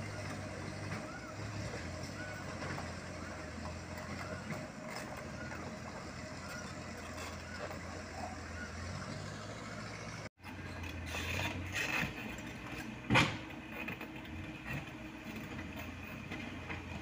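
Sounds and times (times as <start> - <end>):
dump truck engines: 0.0 - 17.0
excavator diesel engine running: 0.0 - 17.0.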